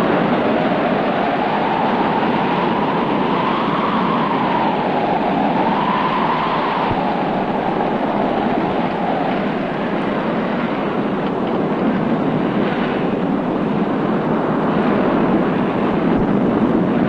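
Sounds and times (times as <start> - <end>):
gale-force wind howling: 0.0 - 17.0.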